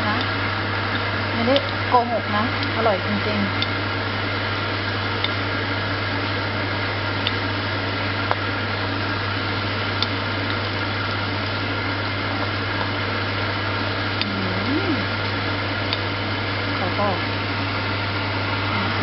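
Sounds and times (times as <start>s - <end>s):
stove fan hum: 0.0s - 19.0s.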